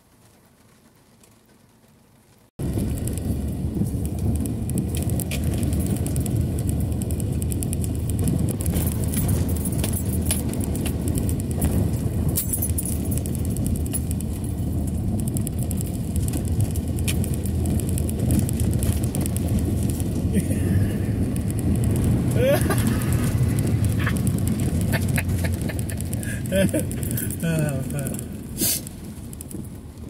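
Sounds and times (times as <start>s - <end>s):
water ticking on car body: 0.2s - 30.0s
tyres rumbling through water: 2.6s - 30.0s.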